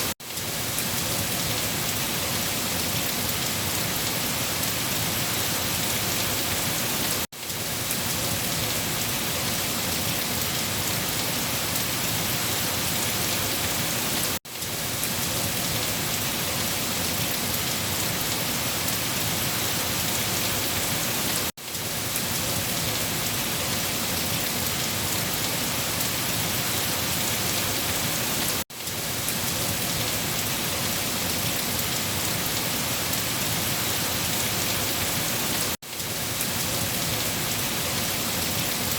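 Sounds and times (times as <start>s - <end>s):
dense rain falling: 0.0s - 38.9s.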